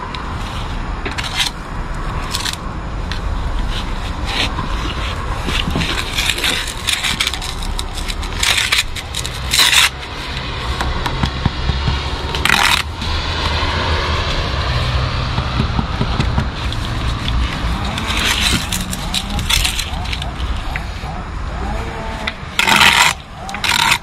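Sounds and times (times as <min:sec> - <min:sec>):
trowel scraping brickwork: 0:03.6 - 0:24.0.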